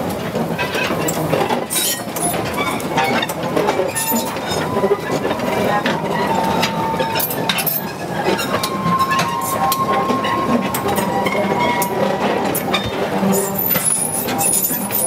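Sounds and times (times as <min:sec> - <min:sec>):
freight train running: 0:00.0 - 0:15.0
wagons clattering and clinking: 0:00.0 - 0:15.0.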